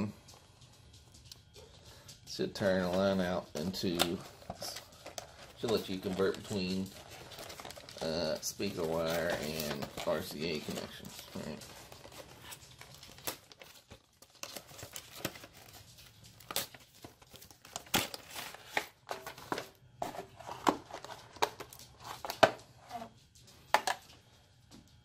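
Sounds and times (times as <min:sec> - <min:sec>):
plastic packaging crinkling: 0:00.5 - 0:24.0.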